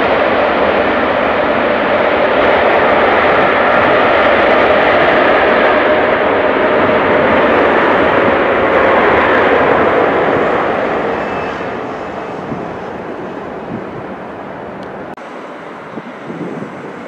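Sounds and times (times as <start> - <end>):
faint jet engine whine: 0.0 - 17.0
jet engines rushing: 0.0 - 17.0.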